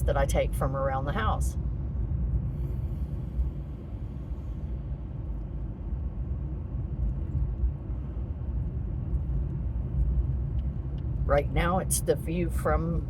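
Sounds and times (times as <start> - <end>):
road noise inside moving car: 0.0 - 13.0.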